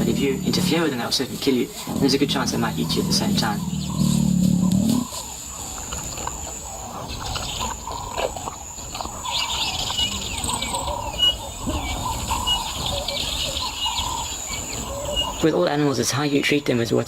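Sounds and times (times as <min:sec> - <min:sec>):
high insect drone: 0:00.0 - 0:16.8
wild birds calling and chirping: 0:00.0 - 0:17.0.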